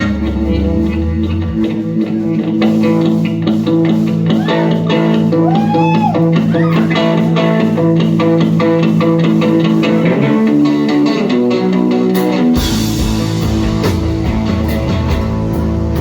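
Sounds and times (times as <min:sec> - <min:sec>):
bass guitar: 0:00.0 - 0:16.0
electric guitar: 0:00.0 - 0:16.0.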